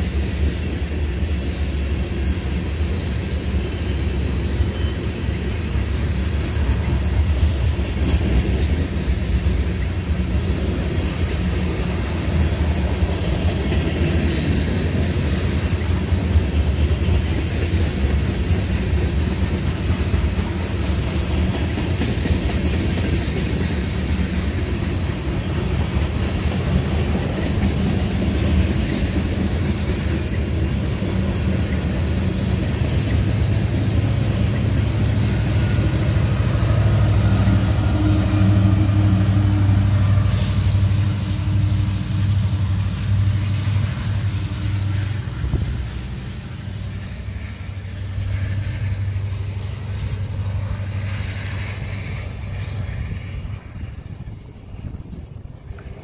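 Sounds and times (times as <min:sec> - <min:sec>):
train wheels clacking over rail joints: 0:00.0 - 0:52.6
diesel locomotive hum: 0:00.0 - 0:56.0.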